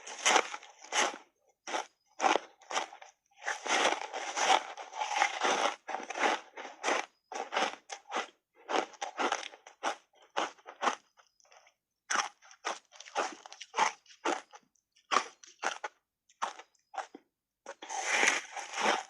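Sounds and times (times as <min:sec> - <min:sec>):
crunchy ice being chewed: 0:00.0 - 0:19.0.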